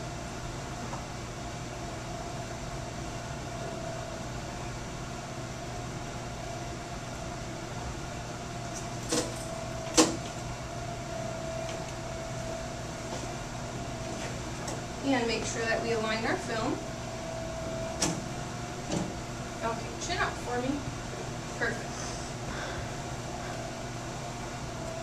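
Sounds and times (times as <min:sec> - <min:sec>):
x-ray equipment hum: 0:00.0 - 0:25.0.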